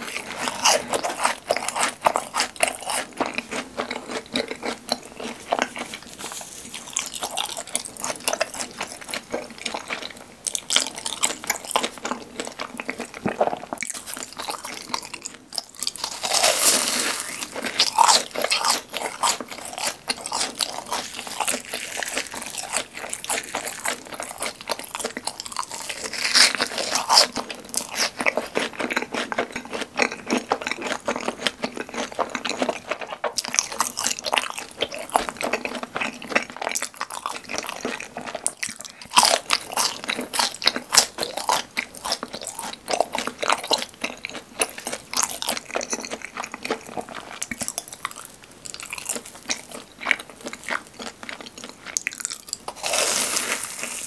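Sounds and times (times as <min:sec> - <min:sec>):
crunchy eating and chewing: 0:00.0 - 0:54.0.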